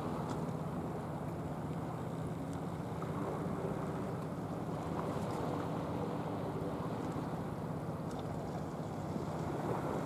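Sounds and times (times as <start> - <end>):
surf on rocky shore: 0.0 - 1.5, 2.9 - 10.0.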